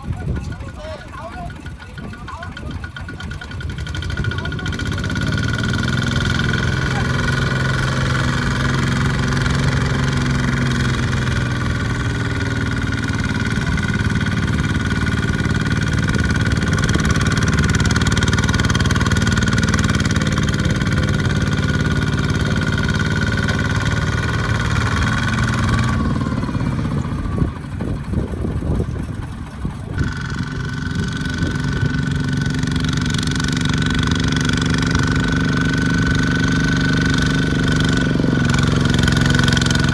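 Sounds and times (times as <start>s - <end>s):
engine knocking: 0.0s - 39.9s
tractor engine running: 0.0s - 39.9s.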